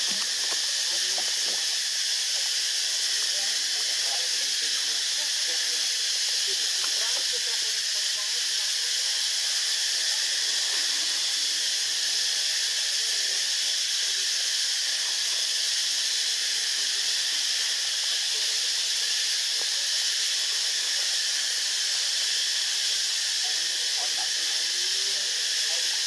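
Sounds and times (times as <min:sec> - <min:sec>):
high-pitched hiss: 0:00.0 - 0:26.0.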